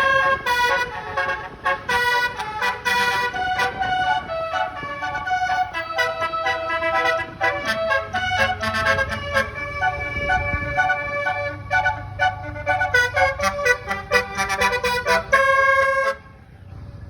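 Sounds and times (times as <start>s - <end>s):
bus musical horn playing tune: 0.0s - 16.6s
bus engine rumble: 0.0s - 17.0s.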